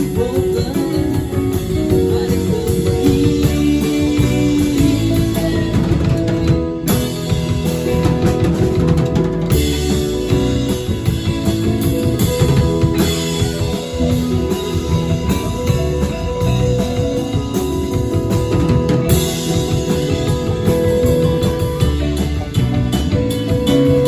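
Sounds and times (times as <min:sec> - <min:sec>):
drum kit: 0:00.0 - 0:24.0
electric guitar: 0:00.0 - 0:24.0
rock band playing instrumental: 0:00.0 - 0:24.0.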